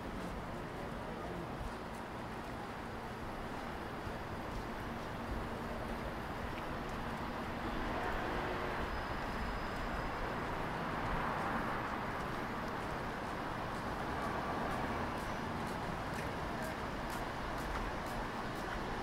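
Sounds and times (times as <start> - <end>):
distant traffic noise: 0.0 - 19.0.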